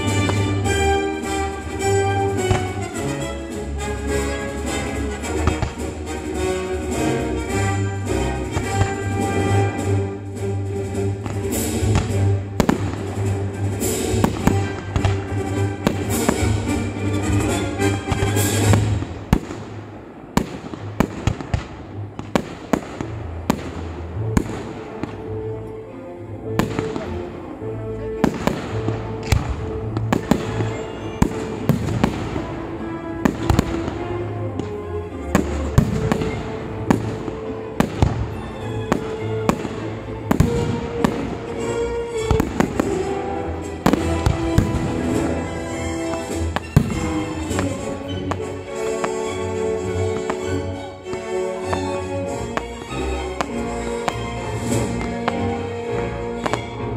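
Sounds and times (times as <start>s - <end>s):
fireworks bangs: 0.0s - 3.2s, 4.2s - 6.3s, 11.0s - 25.3s, 28.2s - 56.9s
music: 0.0s - 56.9s.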